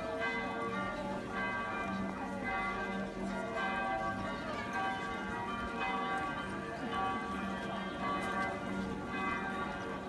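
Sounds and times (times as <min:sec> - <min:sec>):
church bells ringing: 0:00.0 - 0:10.0.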